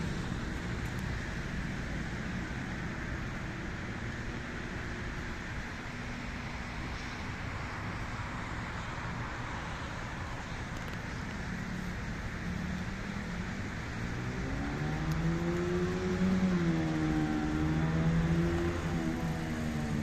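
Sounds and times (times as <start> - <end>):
traffic on wet street: 0.0 - 20.0
vehicle engine hum: 0.0 - 20.0.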